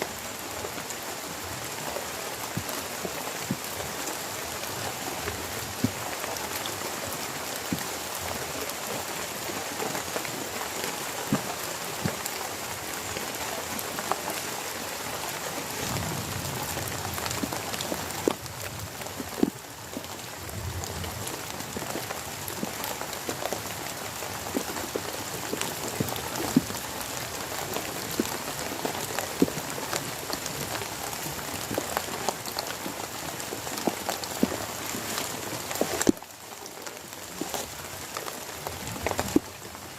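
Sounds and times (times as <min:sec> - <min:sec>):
heavy rain falling: 0:00.0 - 0:39.9
raindrops ticking on surfaces: 0:00.0 - 0:39.9.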